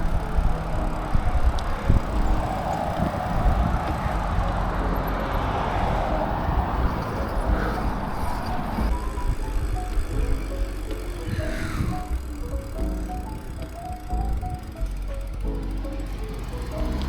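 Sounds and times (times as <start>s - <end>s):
rushing noise: 0.0s - 14.4s
bicycle tyre and road noise: 0.0s - 17.0s
wind buffeting microphone: 0.0s - 17.0s.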